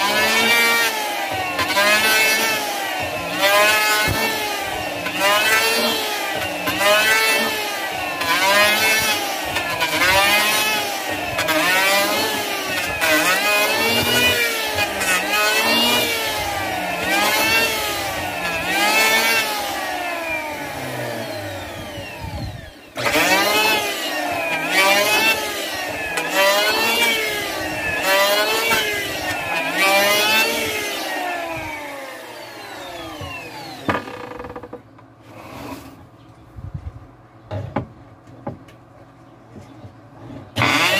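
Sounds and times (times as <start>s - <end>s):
electric hand planer cutting wood: 0.0s - 36.0s, 40.3s - 40.9s.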